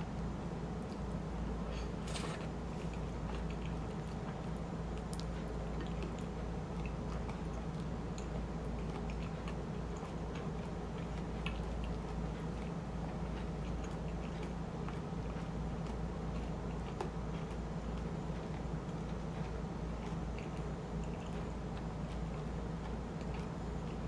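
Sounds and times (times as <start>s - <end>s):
wet chewing clicks: 2.0s - 12.7s, 13.3s - 24.0s.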